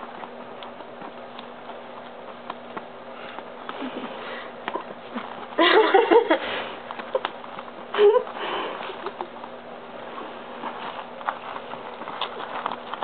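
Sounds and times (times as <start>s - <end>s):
puppies snuffling and sniffing: 0.0s - 13.0s.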